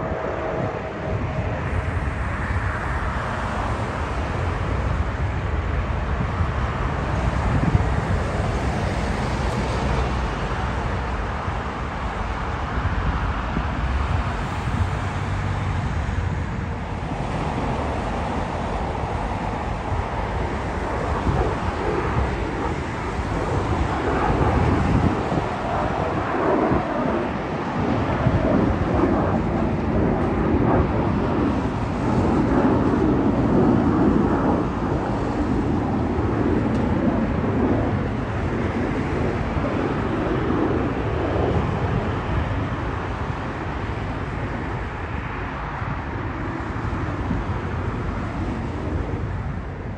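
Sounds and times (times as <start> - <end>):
jet engines rumbling: 0.0 - 49.9
wind noise on microphone: 0.0 - 49.9.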